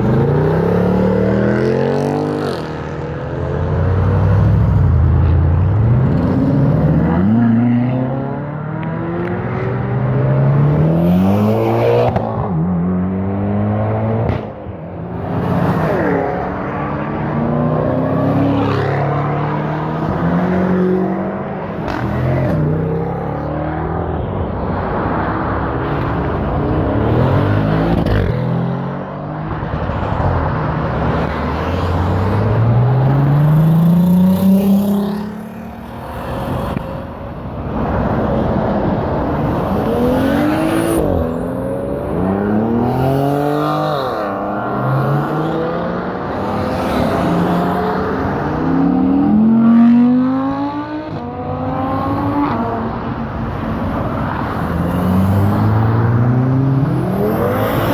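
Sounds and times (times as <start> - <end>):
sports cars accelerating: 0.0 - 57.9
tyre and traffic noise: 0.0 - 57.9.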